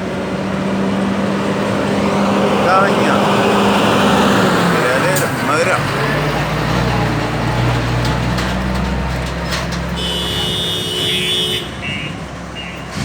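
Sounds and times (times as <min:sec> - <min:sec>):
truck engine passing: 0:00.0 - 0:13.0.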